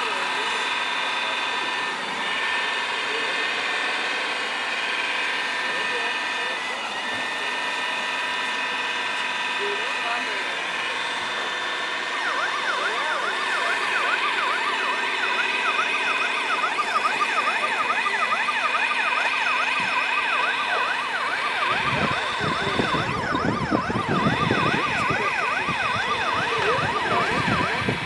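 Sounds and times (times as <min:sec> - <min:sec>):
electronic siren yelping: 0:00.0 - 0:28.0
low rumbling with shifting pitch: 0:00.0 - 0:28.0.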